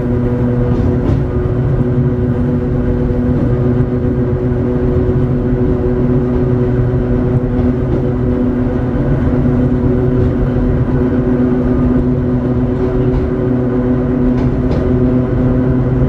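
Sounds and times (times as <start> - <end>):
traction motor hum: 0.0 - 16.0
train wheels rumbling: 0.0 - 16.0.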